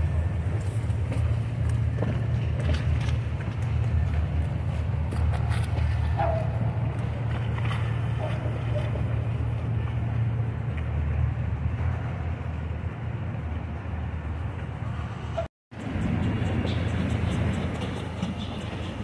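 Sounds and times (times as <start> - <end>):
outboard motors low rumble: 0.0 - 19.0
water noise: 0.0 - 19.0.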